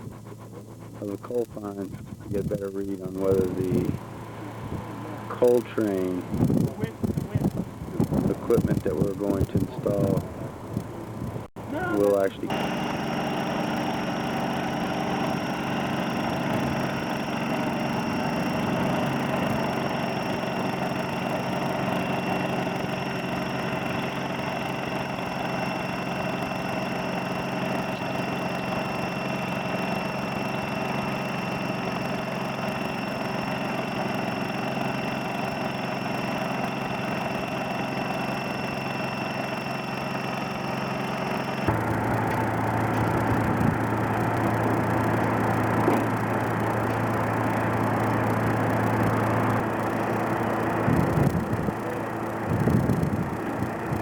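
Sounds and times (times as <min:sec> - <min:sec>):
engine droning: 0:00.0 - 0:54.0
high-pitched whine: 0:00.0 - 0:54.0.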